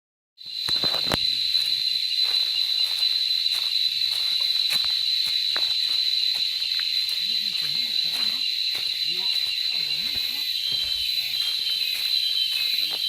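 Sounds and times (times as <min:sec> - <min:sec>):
high-pitched insect chorus: 0:00.4 - 0:13.0.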